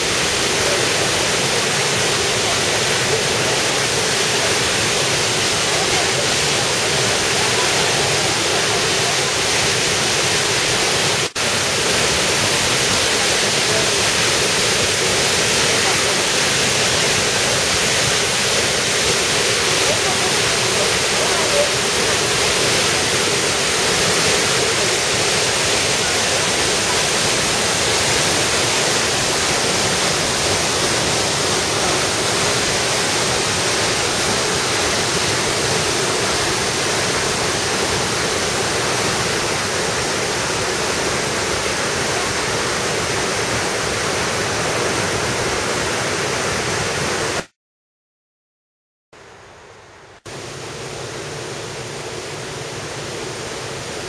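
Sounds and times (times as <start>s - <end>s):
waterfall rushing water: 0.0s - 47.5s, 49.2s - 54.0s.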